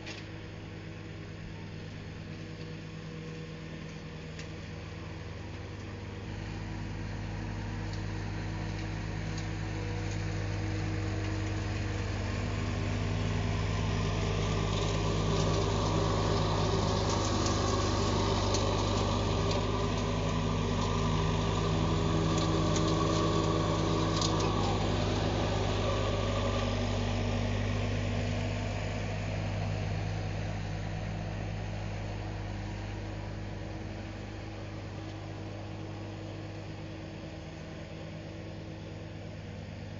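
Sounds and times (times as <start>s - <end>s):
lawn tractor mower running: 0.0s - 39.9s.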